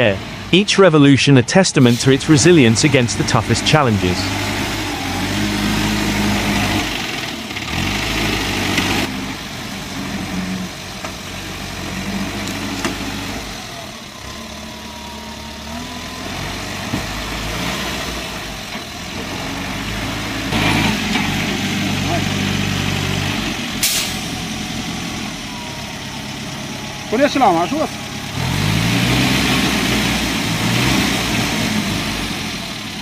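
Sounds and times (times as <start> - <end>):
heavy vehicle engine running: 0.0 - 33.0.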